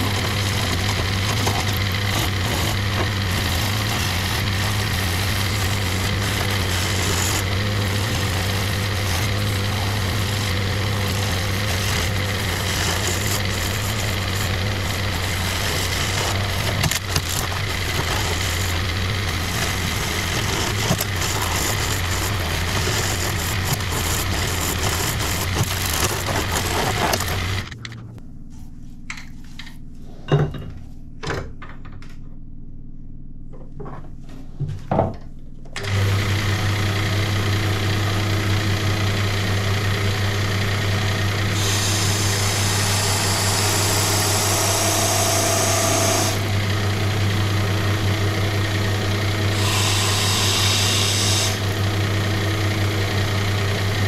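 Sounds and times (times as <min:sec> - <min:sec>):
chisel scraping spinning wood: 0:00.0 - 0:27.8, 0:35.8 - 0:54.0
wood lathe motor hum: 0:00.0 - 0:27.8, 0:35.8 - 0:54.0.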